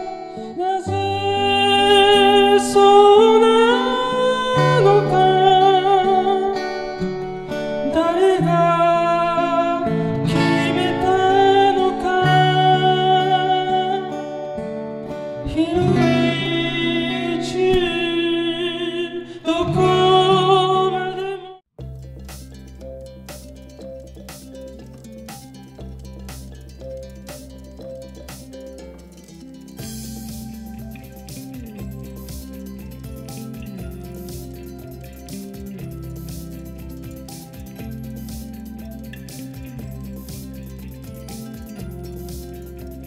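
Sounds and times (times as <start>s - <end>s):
acoustic guitar: 0.0s - 43.0s.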